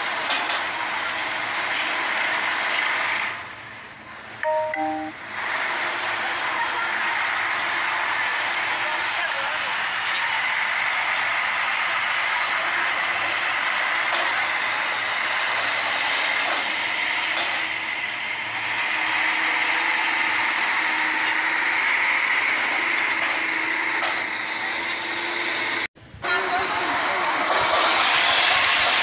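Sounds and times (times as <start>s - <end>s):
heavy truck engine running: 0.0s - 29.0s.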